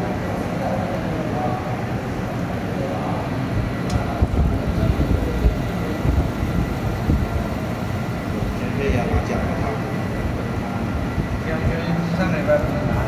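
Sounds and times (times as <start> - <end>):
laser marking machine rumble: 0.0 - 13.0.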